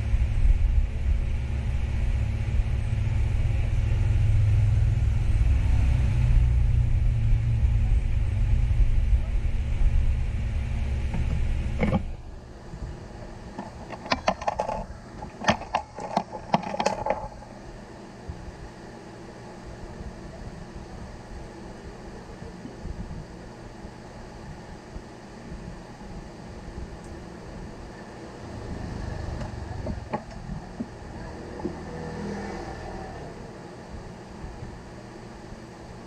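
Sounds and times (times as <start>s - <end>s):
low machine rumble: 0.0s - 36.0s.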